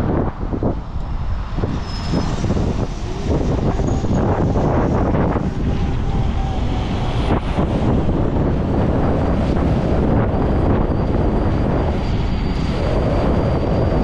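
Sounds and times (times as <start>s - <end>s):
road and traffic noise: 0.0s - 14.0s
wind buffeting microphone: 0.0s - 14.0s.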